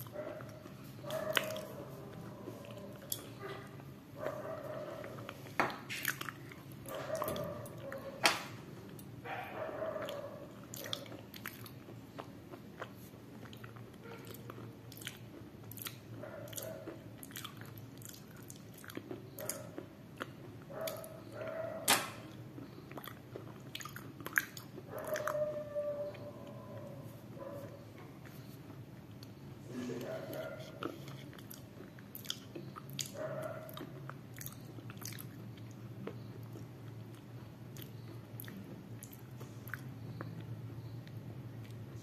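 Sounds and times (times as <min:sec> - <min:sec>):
chewing crunchy food: 0:00.0 - 0:42.0.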